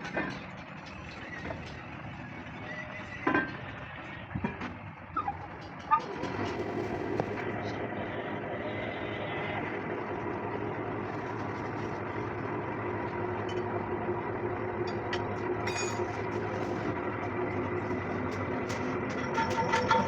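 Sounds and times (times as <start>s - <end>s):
workshop machinery droning: 0.0s - 20.0s.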